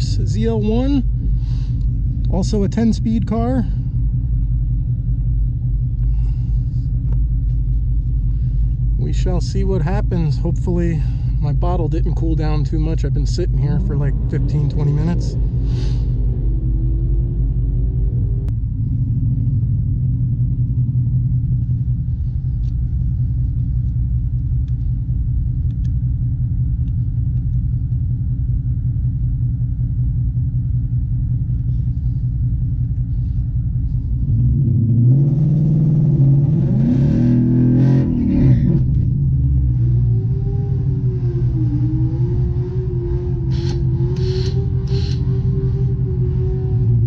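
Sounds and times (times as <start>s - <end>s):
car engine revving: 0.0s - 24.4s, 33.1s - 47.0s
car engine idling: 0.0s - 47.0s.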